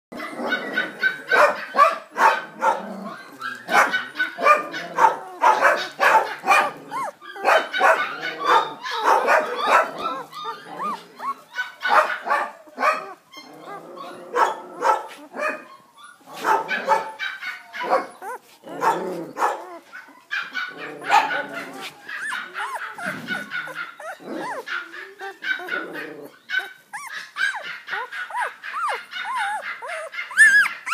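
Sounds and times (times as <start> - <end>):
puppy whining: 0.2 - 1.8, 2.8 - 30.9
puppy yelping: 0.2 - 30.9.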